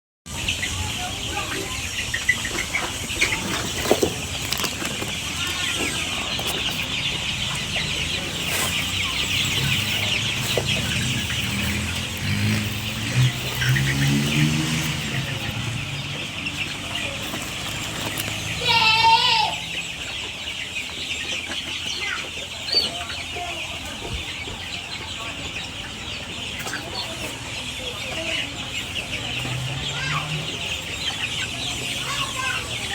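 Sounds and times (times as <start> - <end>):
chickens clucking: 0.3 - 32.9
chicks cheeping: 0.3 - 32.9.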